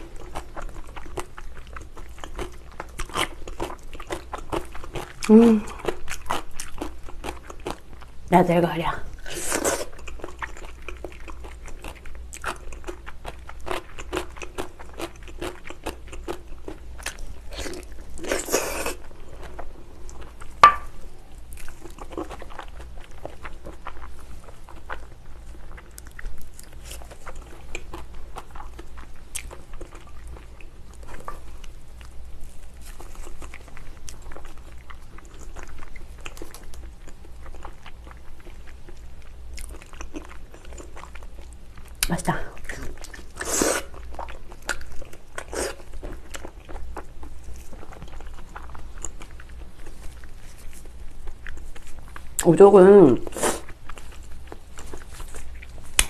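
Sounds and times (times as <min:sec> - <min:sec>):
wet chewing and biting: 0:00.0 - 0:08.1, 0:09.4 - 0:52.5, 0:53.3 - 0:56.0.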